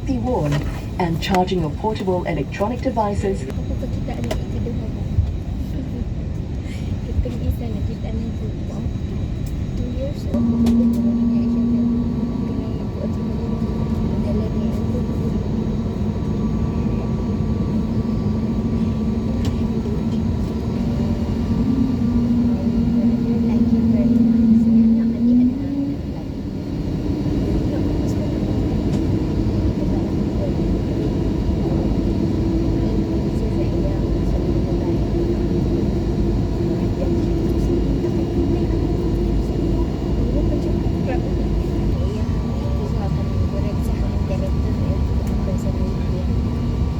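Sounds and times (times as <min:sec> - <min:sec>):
jet engine rumble in cabin: 0:00.0 - 0:46.9
steady hum: 0:00.0 - 0:46.9.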